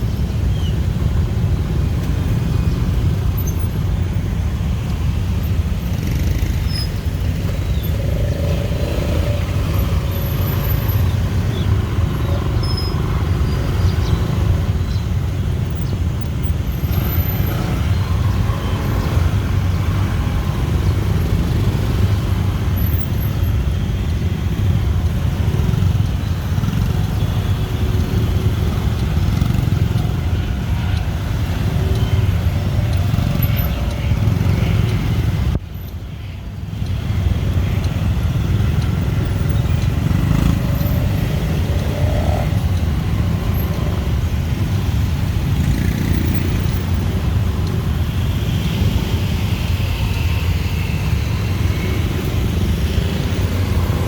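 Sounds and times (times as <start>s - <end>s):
dense street traffic: 0.0s - 54.0s.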